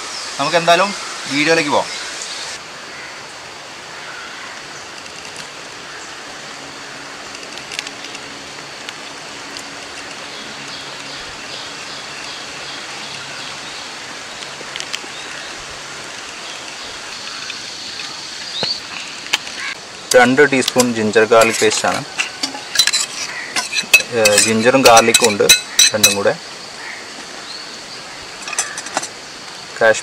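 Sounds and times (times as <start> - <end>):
even hiss of running water: 0.0 - 30.0.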